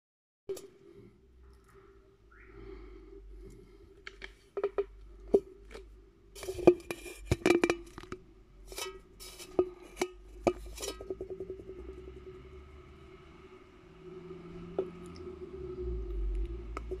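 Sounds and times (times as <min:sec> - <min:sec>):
faint steady hum: 0:00.5 - 0:17.0.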